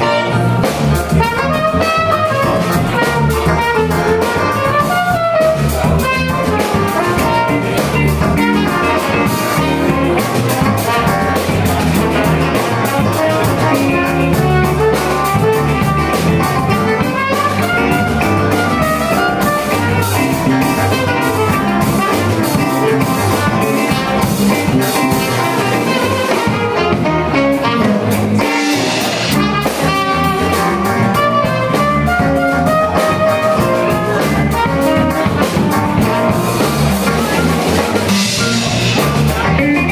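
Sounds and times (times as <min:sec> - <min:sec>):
band playing funk: 0:00.0 - 0:39.9.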